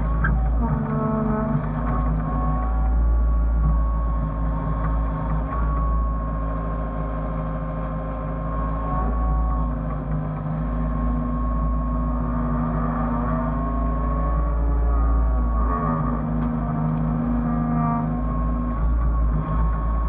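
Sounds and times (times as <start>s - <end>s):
excavator diesel engine running: 0.0s - 20.0s
high whine: 0.0s - 20.0s.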